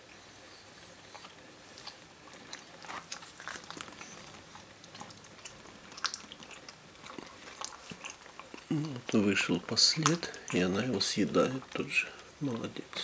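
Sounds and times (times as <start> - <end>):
cat licking and chewing: 0.9 - 13.0.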